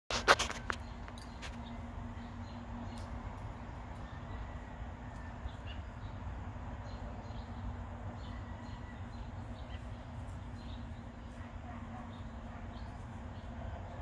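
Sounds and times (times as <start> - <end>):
faint constant hum: 0.1 - 14.0
low outdoor rumble: 0.1 - 14.0.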